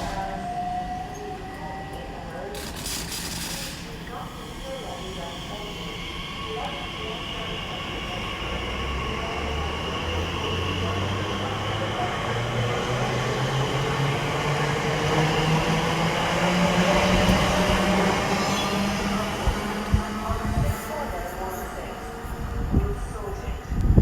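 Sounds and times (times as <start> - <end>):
train pulling away: 0.0 - 1.6, 2.5 - 23.5.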